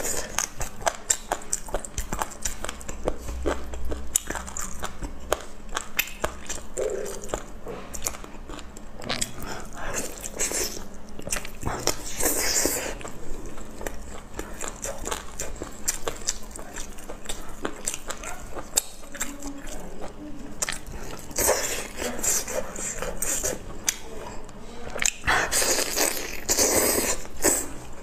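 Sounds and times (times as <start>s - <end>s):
wet chewing with mouth clicks: 0.0s - 28.0s.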